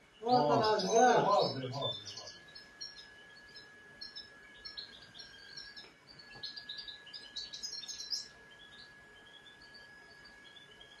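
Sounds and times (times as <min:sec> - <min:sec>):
faint high whine: 0:00.0 - 0:11.0
small bird chirping: 0:00.0 - 0:11.0.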